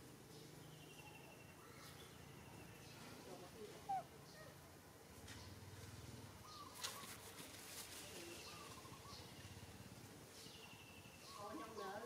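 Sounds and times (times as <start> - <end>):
distant bird calls: 0.0 - 12.0.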